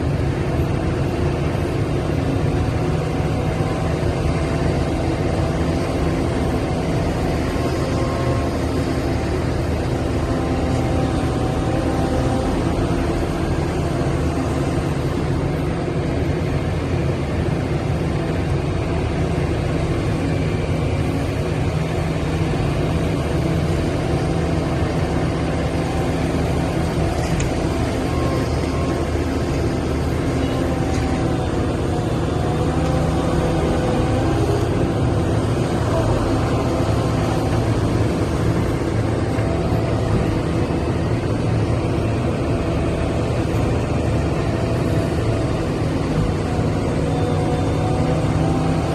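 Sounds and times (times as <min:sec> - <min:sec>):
excavator diesel engine droning: 0:00.0 - 0:48.9.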